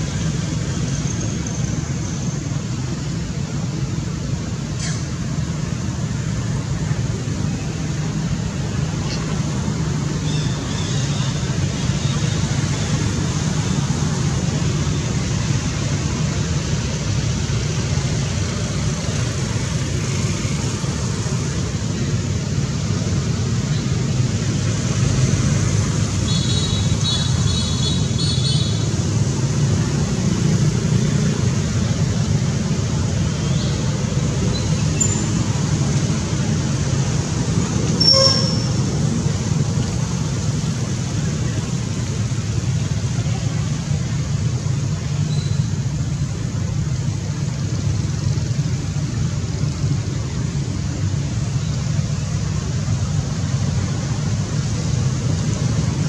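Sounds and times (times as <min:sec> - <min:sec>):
low rumble of road traffic: 0:00.0 - 0:56.0.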